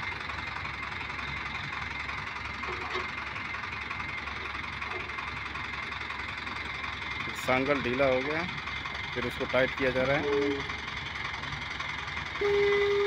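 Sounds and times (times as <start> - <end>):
diesel crane engine idling: 0.0 - 13.0.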